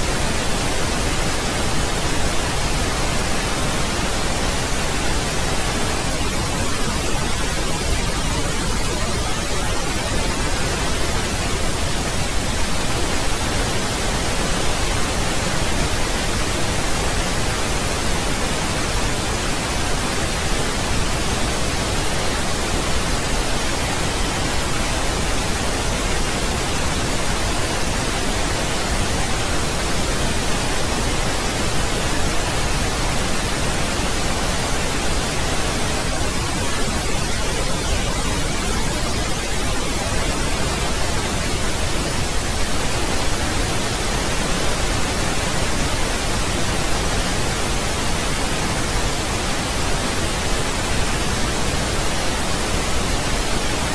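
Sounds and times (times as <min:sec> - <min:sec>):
pink noise hiss: 0:00.0 - 0:53.9.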